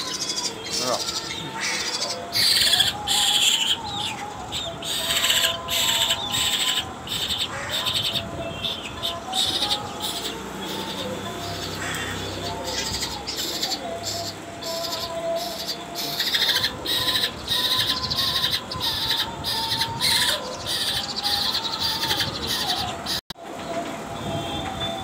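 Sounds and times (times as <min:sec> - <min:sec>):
bird raspy begging calls: 0:00.0 - 0:23.2.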